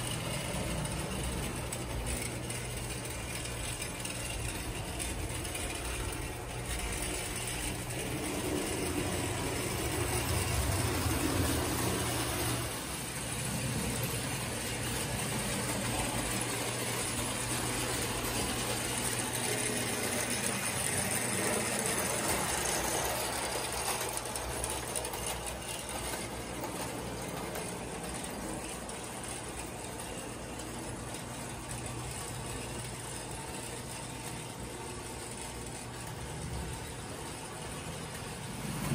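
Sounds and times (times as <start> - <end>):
toy train motor whirring: 0.0 - 38.9
wheels clattering on metal track: 0.0 - 38.9.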